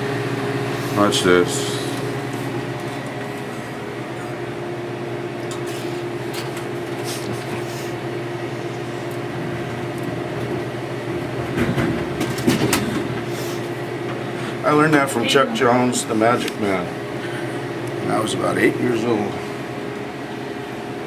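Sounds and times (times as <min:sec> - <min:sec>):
machines humming: 0:00.0 - 0:21.0.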